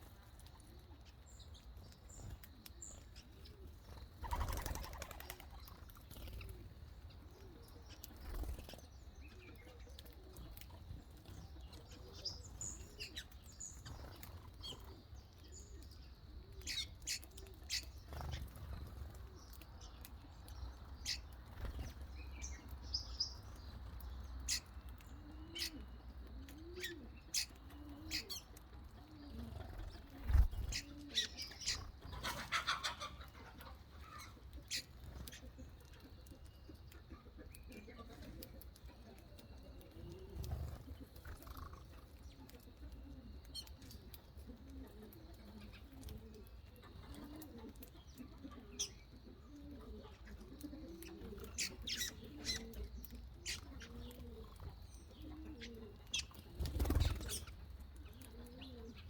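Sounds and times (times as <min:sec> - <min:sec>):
birds cooing softly: 0:00.0 - 0:59.0.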